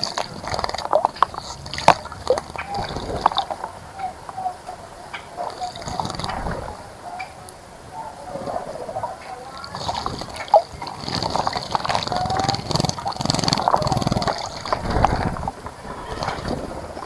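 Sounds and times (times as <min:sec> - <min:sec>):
water splashing in bird bath: 0:00.0 - 0:17.0.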